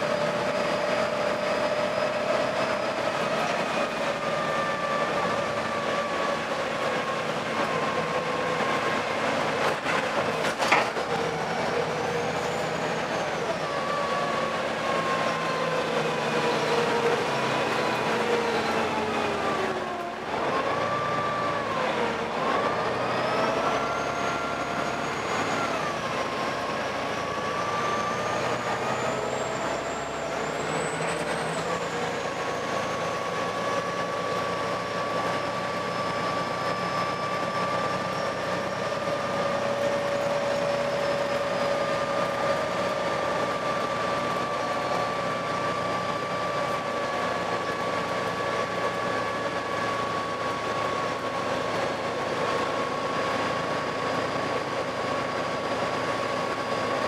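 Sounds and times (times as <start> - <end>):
bus engine running: 0.0 - 57.0
high engine whine: 0.0 - 57.0.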